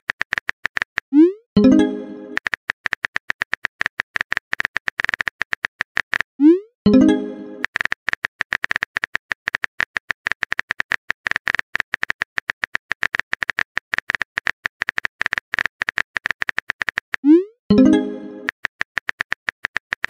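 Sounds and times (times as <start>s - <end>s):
keyboard typing clicks: 0.1s - 20.0s.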